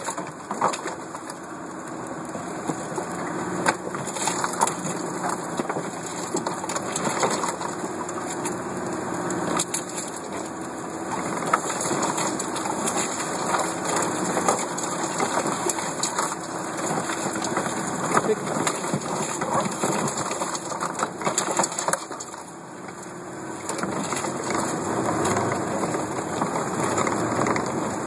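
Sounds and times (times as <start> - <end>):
branches scraping and snapping: 0.0 - 28.0
vehicle engine running: 0.0 - 28.0.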